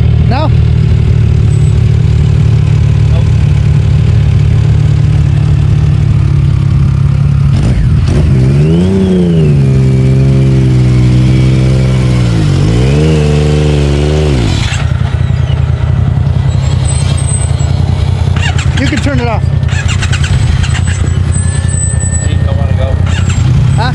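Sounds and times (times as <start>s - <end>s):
utility vehicle engine revving: 0.0s - 23.9s.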